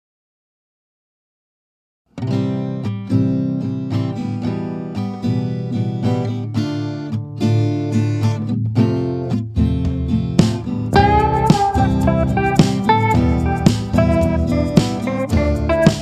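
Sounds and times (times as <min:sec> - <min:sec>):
acoustic guitar strumming chords: 0:02.2 - 0:16.0.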